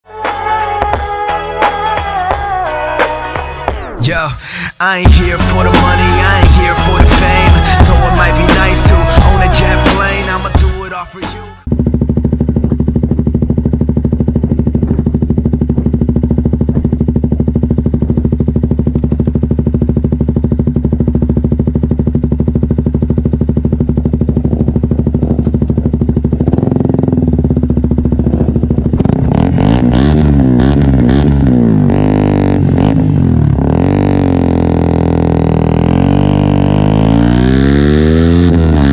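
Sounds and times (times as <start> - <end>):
motorcycle engine idling and revving: 5.1 - 38.9.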